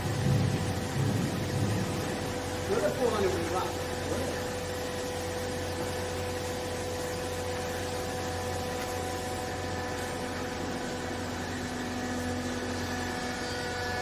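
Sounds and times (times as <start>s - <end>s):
baler motor and pump humming: 0.0s - 14.0s.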